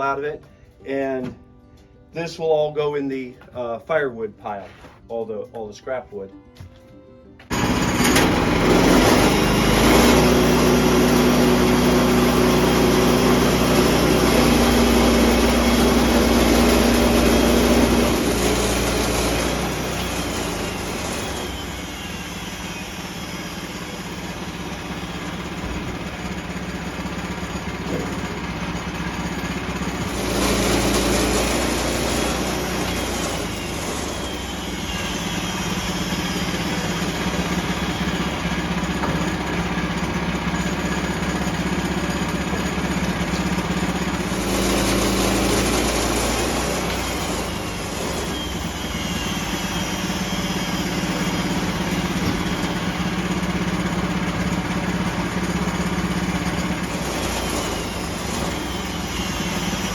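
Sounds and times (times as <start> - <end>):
sawmill engine running: 7.4 - 59.9
saw cutting wood: 7.5 - 59.9.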